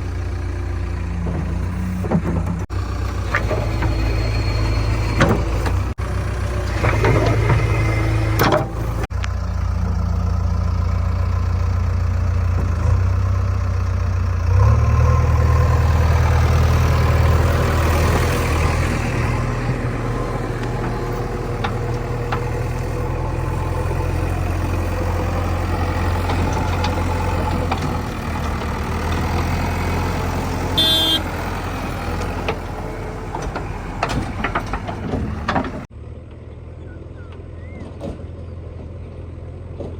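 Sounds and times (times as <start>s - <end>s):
diesel engine revving: 0.0s - 36.0s.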